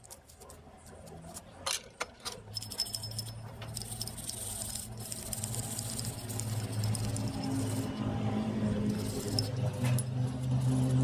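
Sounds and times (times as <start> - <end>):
small metal parts clicking and rattling: 0.0 - 11.0.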